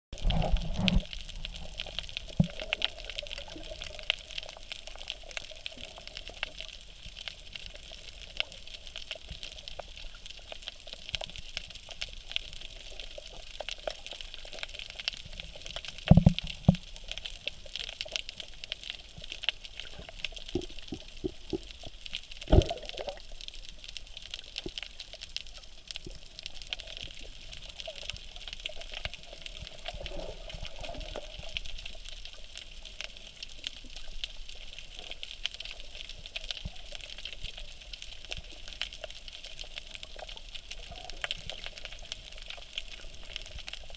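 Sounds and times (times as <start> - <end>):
small crackling clicks: 0.2 - 43.9
steady underwater hiss: 0.2 - 43.9.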